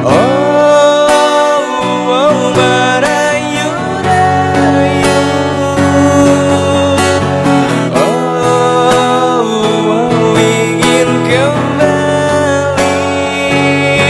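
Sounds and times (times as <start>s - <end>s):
instrumental guitar music: 0.0s - 14.0s.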